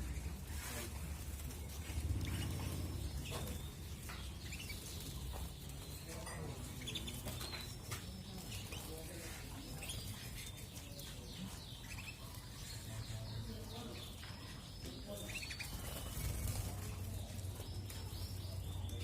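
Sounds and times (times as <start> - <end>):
canaries chirping: 0.0 - 19.0.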